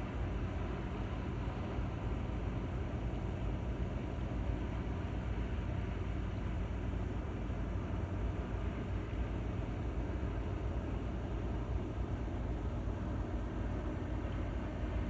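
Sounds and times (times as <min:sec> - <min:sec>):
ship engine drone: 0:00.0 - 0:15.0.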